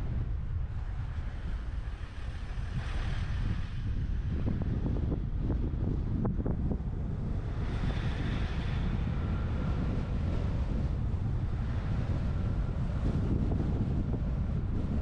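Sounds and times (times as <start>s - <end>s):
low vehicle rumble: 0.0s - 15.0s
wind buffeting microphone: 0.0s - 15.0s.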